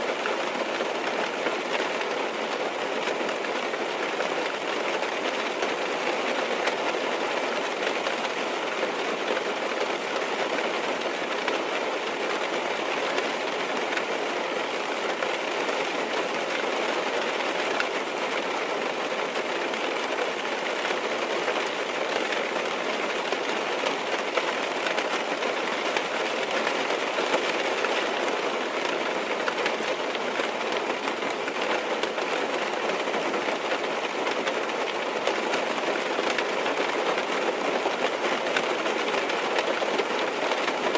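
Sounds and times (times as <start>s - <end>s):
rain on car roof: 0.0s - 40.9s.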